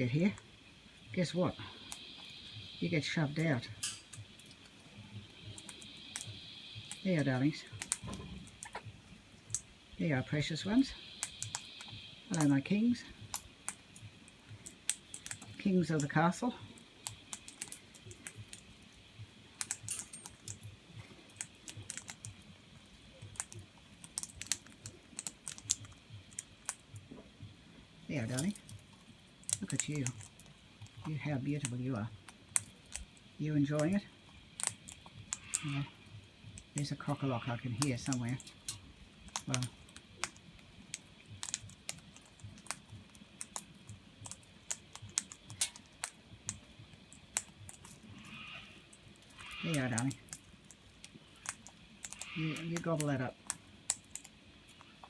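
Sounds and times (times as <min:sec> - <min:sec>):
parrot beaks clicking on food: 0:01.6 - 0:09.7, 0:11.0 - 0:27.6, 0:28.2 - 0:55.0.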